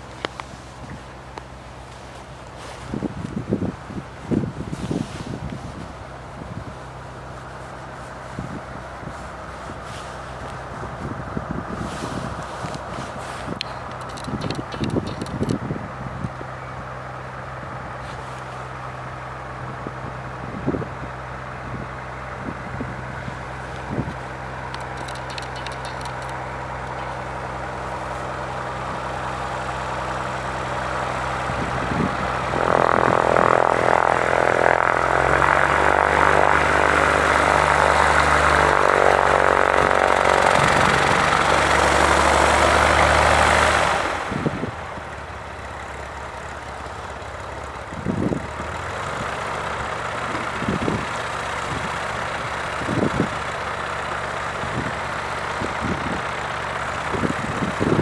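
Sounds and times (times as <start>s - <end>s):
small airplane engine and propeller: 0.0s - 58.0s.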